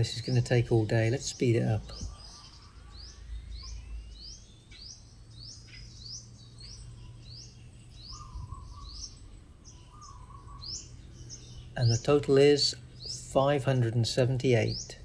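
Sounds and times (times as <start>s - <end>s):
bird chirping: 0.0s - 15.0s
low steady hum: 0.0s - 15.0s.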